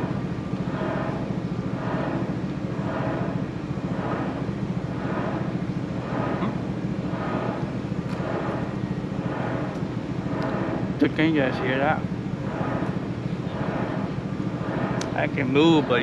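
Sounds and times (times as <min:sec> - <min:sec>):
loud mechanical drone: 0:00.0 - 0:16.0.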